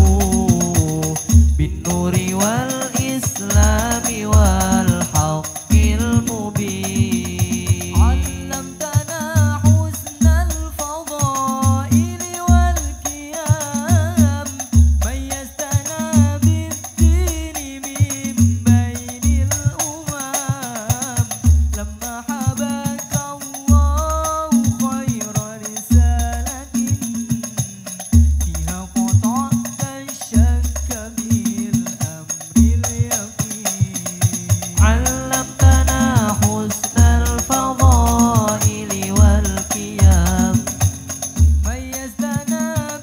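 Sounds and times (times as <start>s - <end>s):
frame drums: 0.0s - 43.0s
men singing in unison: 0.0s - 43.0s.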